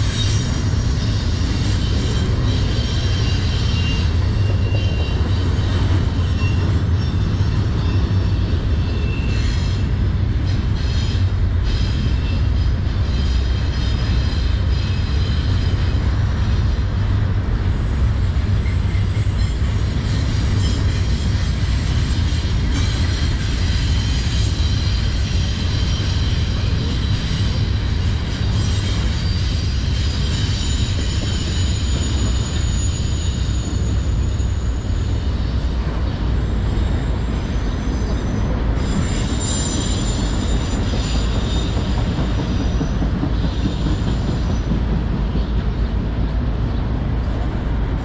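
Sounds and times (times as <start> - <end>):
high-pitched wheel squeal: 0.0 - 16.8, 18.6 - 45.6
train wheels rumbling on rails: 0.0 - 48.0.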